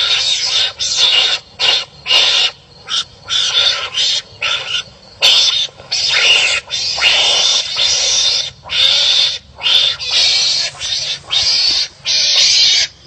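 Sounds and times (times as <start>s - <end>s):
wild animals barking and calling: 0.0s - 13.0s.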